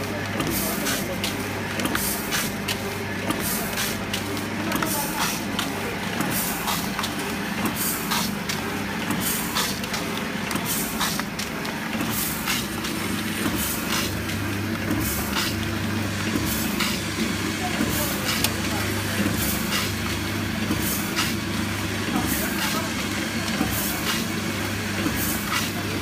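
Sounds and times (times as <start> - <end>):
packing machine humming: 0.0 - 26.0.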